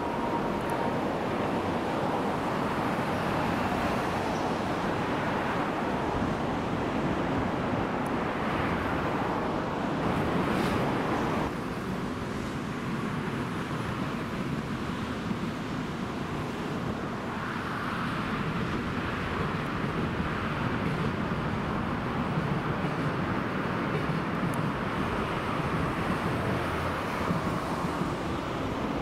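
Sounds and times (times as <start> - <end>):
passing traffic: 0.0 - 29.0.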